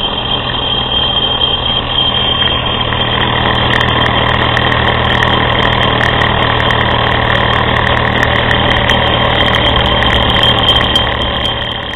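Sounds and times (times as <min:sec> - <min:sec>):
small engine mechanical running: 0:00.0 - 0:11.9.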